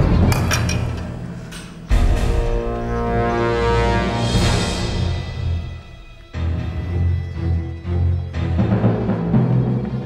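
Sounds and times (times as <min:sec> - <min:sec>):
tense orchestral music: 0:00.0 - 0:10.0.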